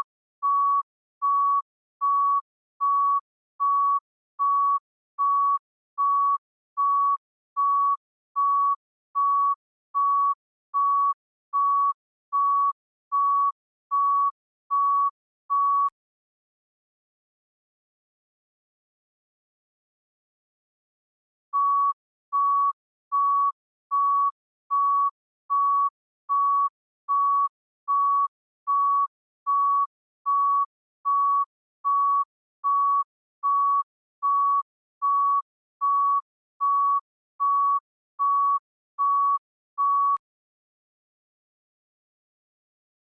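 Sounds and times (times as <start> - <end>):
heart rate monitor beeping: 0.0 - 16.0, 21.5 - 40.2.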